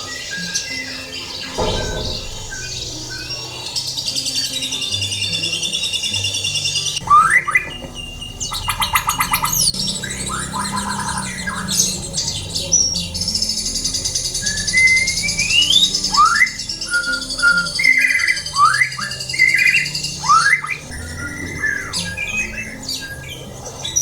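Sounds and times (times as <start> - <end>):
soft background music: 0.0 - 24.0
songbirds singing trills: 0.0 - 24.0.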